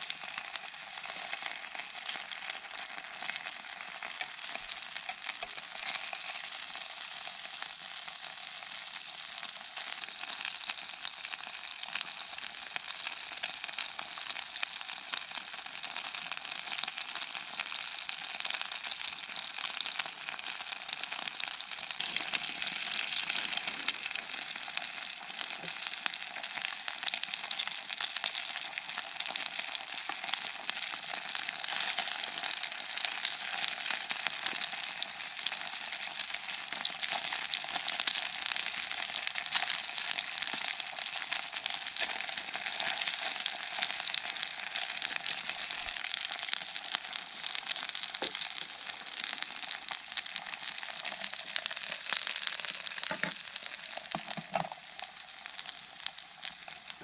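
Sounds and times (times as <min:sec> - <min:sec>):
chicken sizzling in frying pan: 0:00.0 - 0:57.0.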